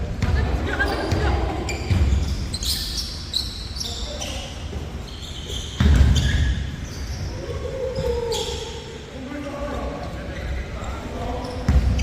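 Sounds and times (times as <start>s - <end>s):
sneakers squeaking: 0.0s - 12.0s.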